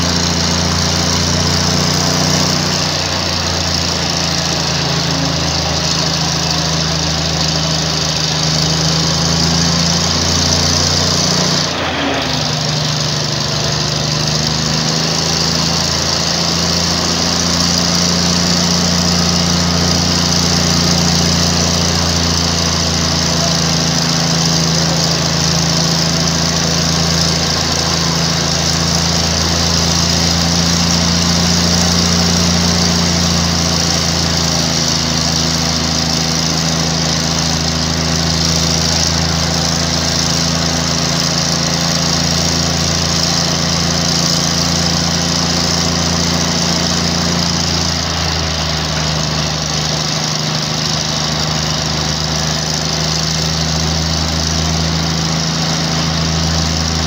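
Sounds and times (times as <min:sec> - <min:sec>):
locomotive diesel engine running: 0:00.0 - 0:57.0.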